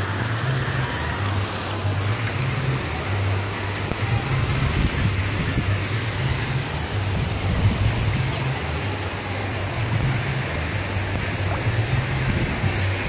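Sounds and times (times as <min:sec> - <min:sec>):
background music bass line: 0:00.0 - 0:13.0
steady rushing noise: 0:00.0 - 0:13.0.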